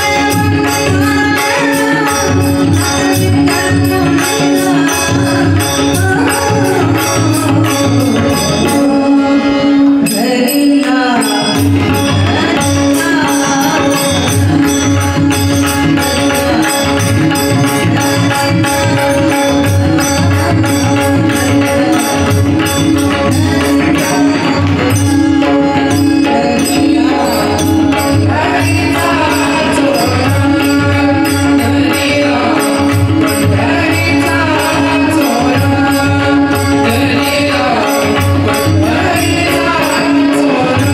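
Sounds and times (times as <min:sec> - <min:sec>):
woman singing: 0:00.0 - 0:40.9.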